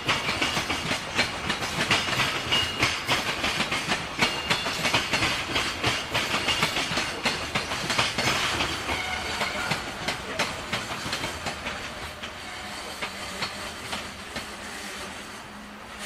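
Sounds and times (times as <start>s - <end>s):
train wheels clacking over rail joints: 0.0s - 15.4s.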